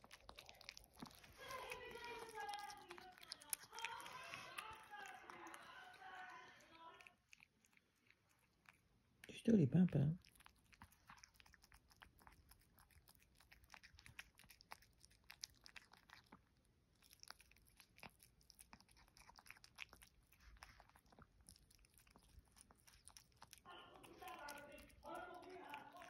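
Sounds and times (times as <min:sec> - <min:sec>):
cat chewing: 0:00.0 - 0:26.0.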